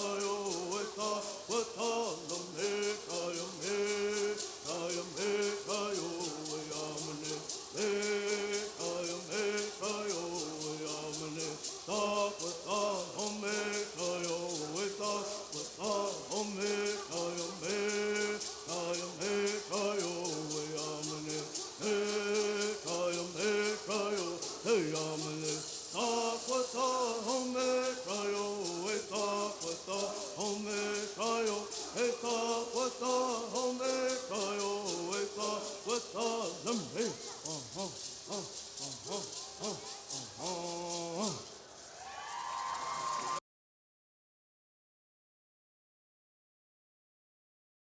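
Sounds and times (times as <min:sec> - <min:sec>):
voices chanting in unison: 0:00.0 - 0:41.6
gourd rattles shaking: 0:00.0 - 0:43.4.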